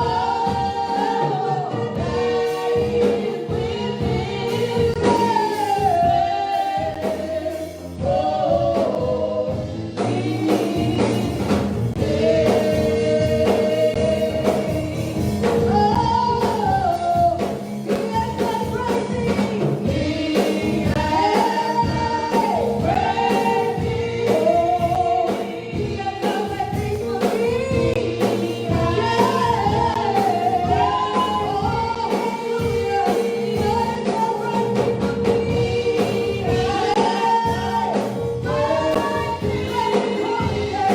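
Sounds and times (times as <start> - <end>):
congregation singing gospel: 0.0 - 40.9.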